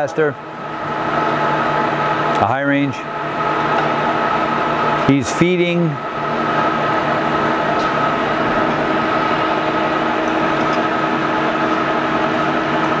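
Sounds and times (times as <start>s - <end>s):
lathe whining: 0.0s - 13.0s.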